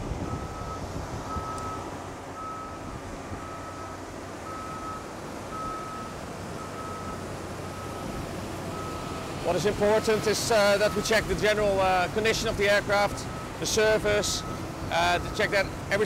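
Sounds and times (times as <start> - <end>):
reversing alarm beeping: 0.2 - 16.0.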